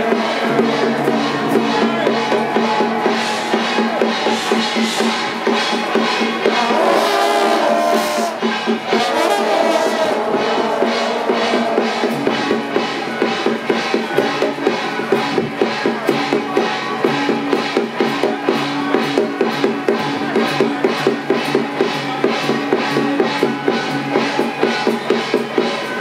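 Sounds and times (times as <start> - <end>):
drums on a steady beat: 0.0 - 26.0.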